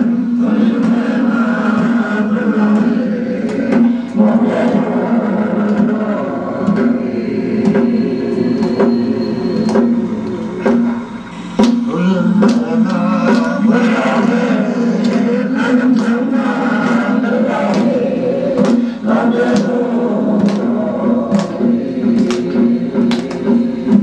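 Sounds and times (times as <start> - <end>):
men and women singing in unison: 0.0 - 24.0.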